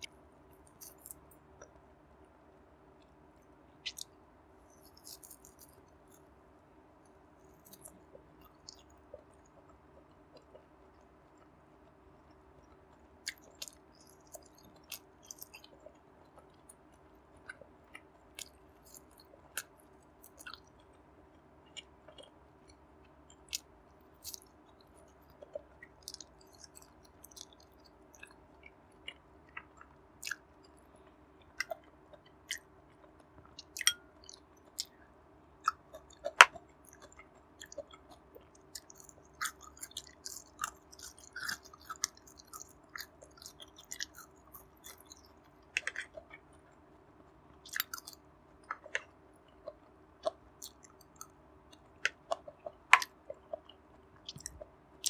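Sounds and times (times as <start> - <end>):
faint steady hum: 0.0 - 55.0
close chewing and biting: 0.6 - 1.4, 4.7 - 6.2, 7.4 - 10.7, 12.5 - 21.0, 21.7 - 46.8, 47.6 - 54.7.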